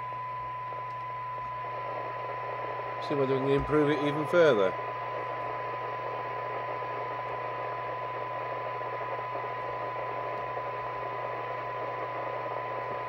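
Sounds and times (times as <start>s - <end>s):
low hum: 0.0s - 13.0s
radio test tone: 0.0s - 13.0s
receiver hiss: 0.0s - 13.0s.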